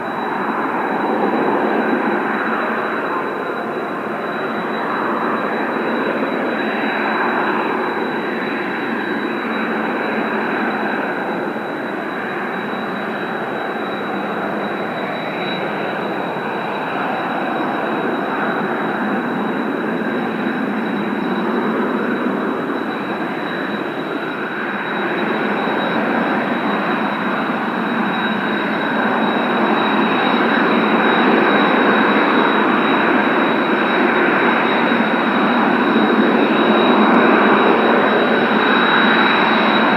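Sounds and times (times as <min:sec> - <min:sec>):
jet engines running with whine: 0:00.0 - 0:39.9.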